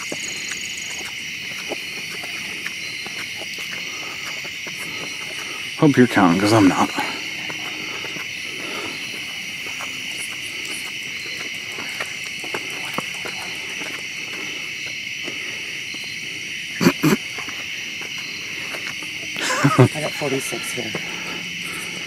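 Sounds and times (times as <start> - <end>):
footsteps climbing steps: 0.0 - 22.0
insect chorus: 0.0 - 22.0.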